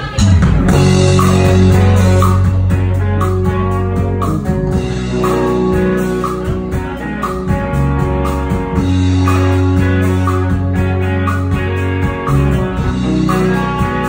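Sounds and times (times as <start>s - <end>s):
bass guitar: 0.0s - 14.0s
drum kit steady beat: 0.0s - 14.0s
electric guitars: 0.0s - 14.0s.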